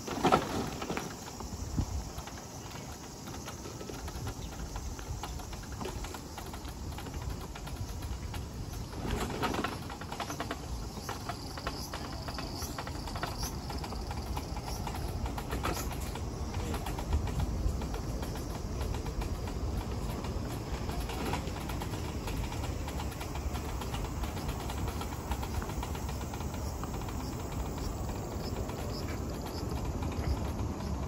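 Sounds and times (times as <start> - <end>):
dense rattle of small clicks: 0.0 - 31.0.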